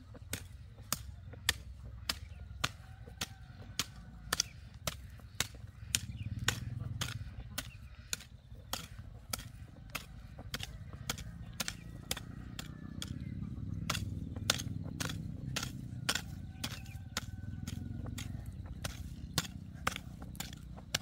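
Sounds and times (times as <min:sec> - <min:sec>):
hoe chopping into soil: 0:00.2 - 0:21.0.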